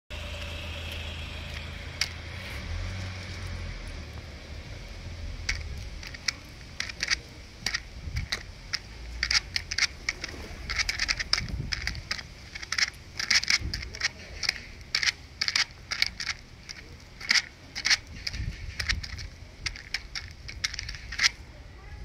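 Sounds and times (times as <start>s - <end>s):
steady low rumble: 0.1s - 22.0s
pigeons pecking kibble: 0.3s - 21.4s.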